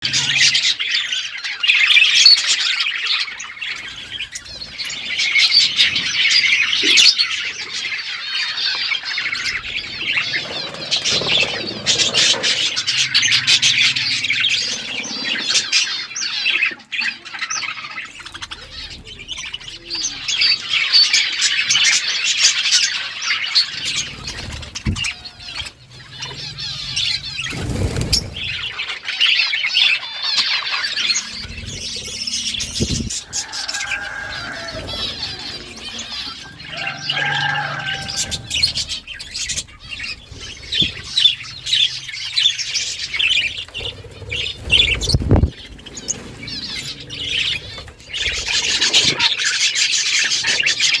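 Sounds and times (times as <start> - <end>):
budgerigars chattering: 0.0 - 51.0.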